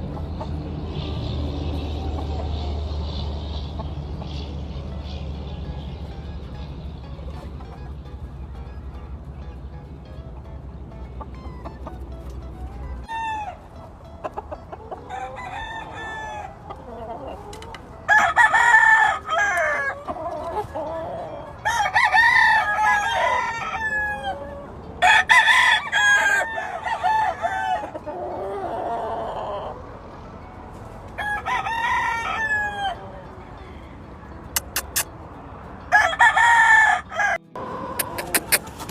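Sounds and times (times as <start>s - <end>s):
roosters crowing: 0.0s - 8.8s, 11.7s - 35.1s, 35.8s - 38.9s
chickens clucking: 0.0s - 38.9s.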